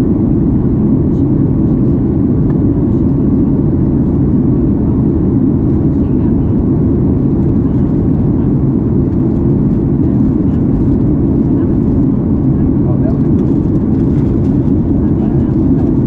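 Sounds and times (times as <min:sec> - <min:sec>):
aircraft cabin engine roar: 0:00.0 - 0:16.0.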